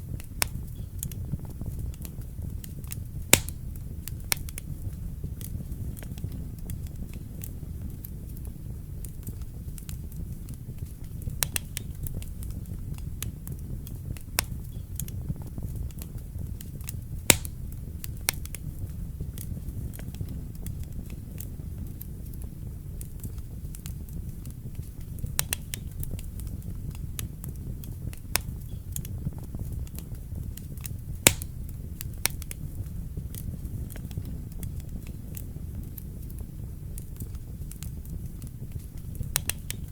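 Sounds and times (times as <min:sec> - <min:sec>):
fire crackling and popping: 0:00.0 - 0:39.9
fire rumbling in fireplace: 0:00.0 - 0:39.9.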